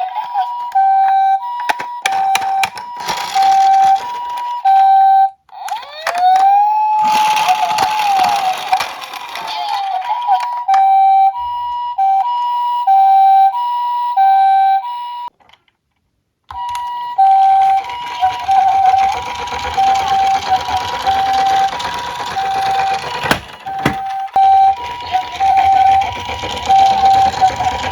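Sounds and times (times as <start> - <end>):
toy two-tone siren: 0.0 - 15.3, 16.5 - 27.9.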